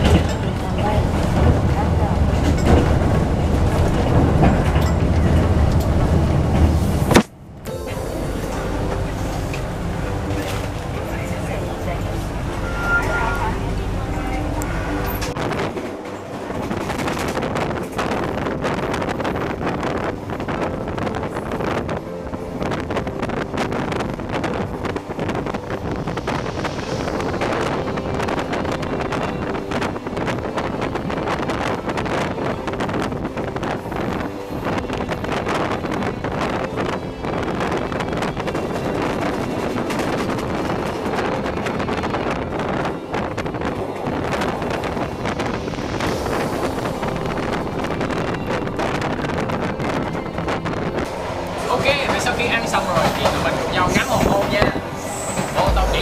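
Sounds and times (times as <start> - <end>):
train clicks and knocks: 0.0 - 7.4, 13.7 - 22.0, 22.6 - 56.0
train rumbling on rails: 0.0 - 56.0
wind blowing on microphone: 8.9 - 56.0.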